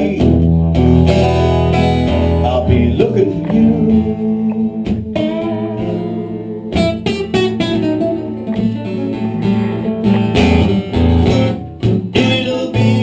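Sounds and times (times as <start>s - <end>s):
acoustic guitar blues playing: 0.0s - 13.0s.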